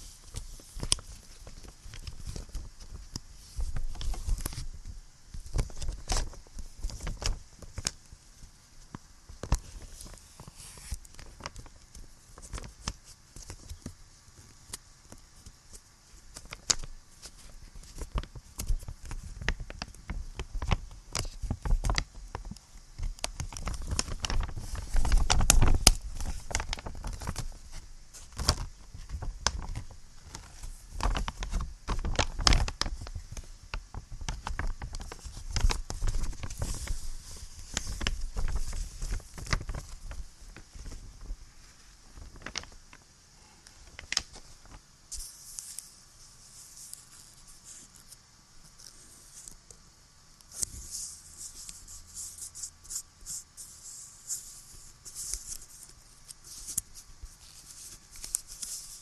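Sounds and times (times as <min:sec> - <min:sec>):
steady recording hiss: 0:00.0 - 0:59.0.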